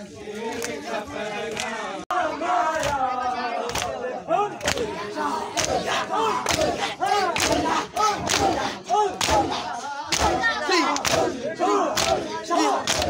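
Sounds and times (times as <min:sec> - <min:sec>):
crowd shouting chants: 0:00.0 - 0:13.0.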